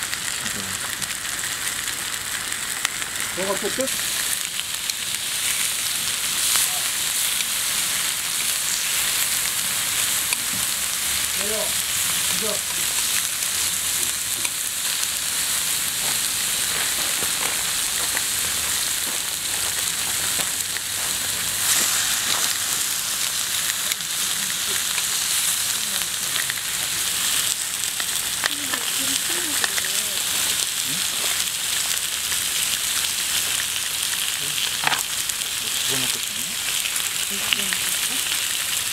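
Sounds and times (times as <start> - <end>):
meat sizzling on a griddle: 0.0 - 38.9.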